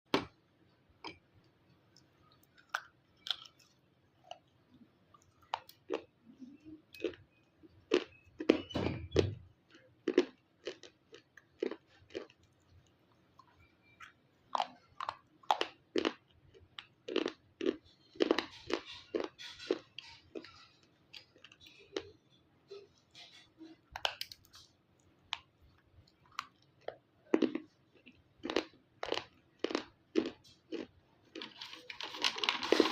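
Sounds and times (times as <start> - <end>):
crunchy chewing: 1.9 - 8.6, 9.7 - 32.9.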